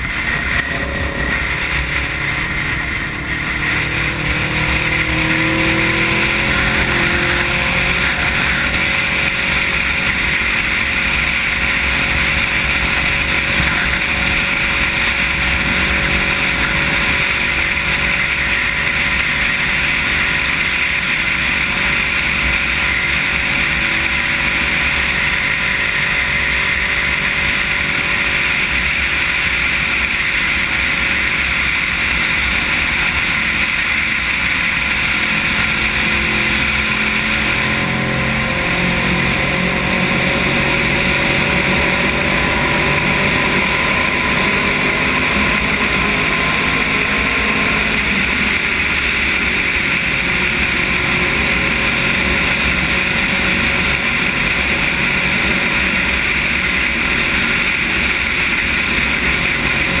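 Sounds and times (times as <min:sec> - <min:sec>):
motorcycle engine accelerating: 0:00.0 - 1:00.0
wind and road noise: 0:00.0 - 1:00.0.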